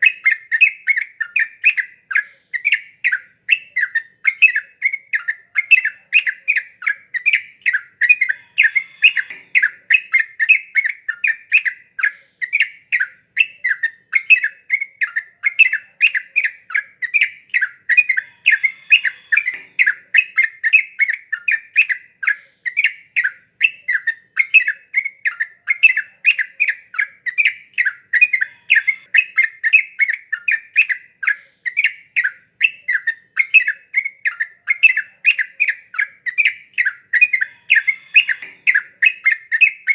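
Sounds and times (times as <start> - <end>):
bulbul singing repeated notes: 0.0 - 39.9.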